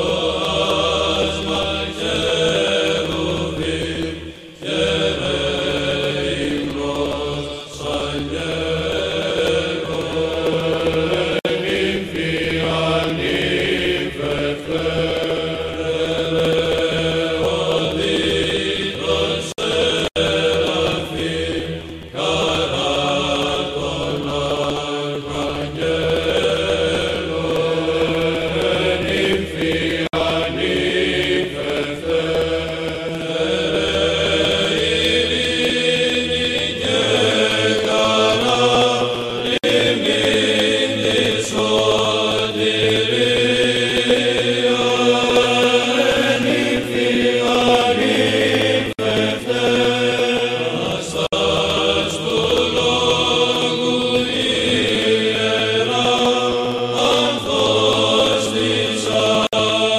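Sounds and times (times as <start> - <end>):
slow chanted vocal music: 0.0 - 59.9.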